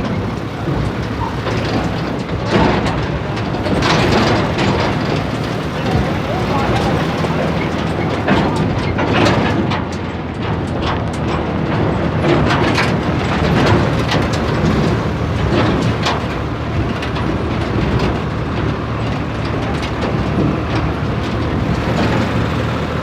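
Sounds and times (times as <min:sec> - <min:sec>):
rattles and knocks of load: 0:00.0 - 0:23.0
tractor engine running: 0:00.0 - 0:23.0.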